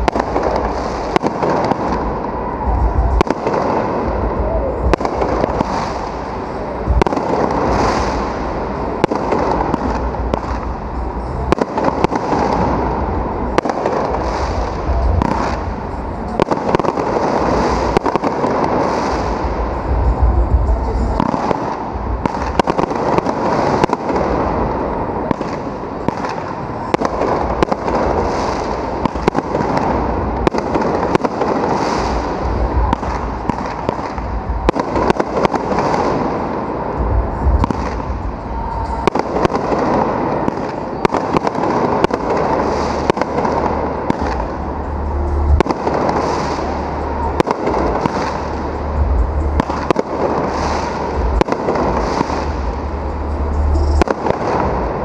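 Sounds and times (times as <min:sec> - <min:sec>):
firework booms: 0:00.0 - 0:55.0
firework crackling: 0:00.0 - 0:55.0.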